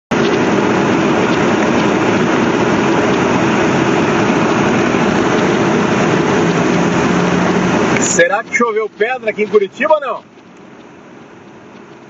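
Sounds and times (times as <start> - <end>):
car on wet road: 0.1 - 12.0
rain: 0.1 - 12.0.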